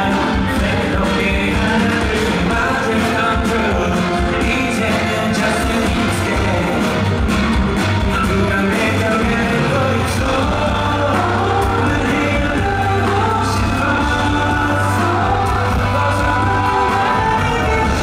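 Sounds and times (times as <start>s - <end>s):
live pop-rock band: 0.0s - 18.0s
man singing: 0.0s - 18.0s.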